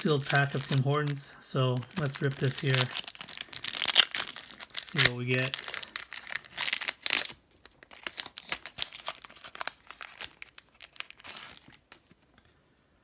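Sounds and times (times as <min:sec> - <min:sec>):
wrapper crinkling and tearing: 0:00.0 - 0:12.2.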